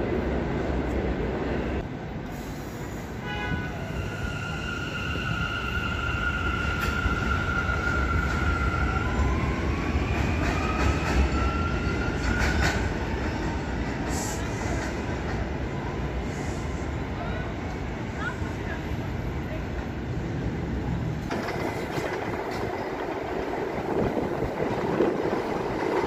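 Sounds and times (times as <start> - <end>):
rising whine of train: 0.0 - 26.0
train wheels rumbling on rail: 0.0 - 26.0.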